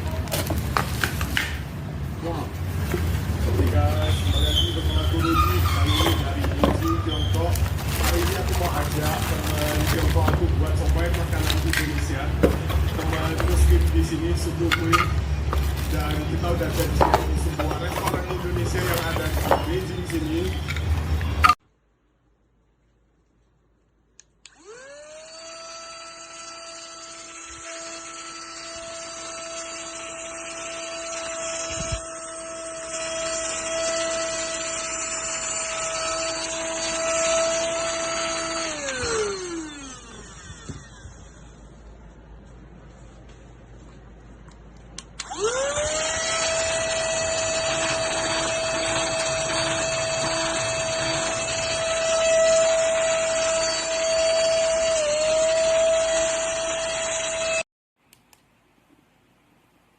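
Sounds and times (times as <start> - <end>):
handheld vacuum cleaner whine: 2.7 - 21.6, 24.4 - 41.9, 45.2 - 57.7.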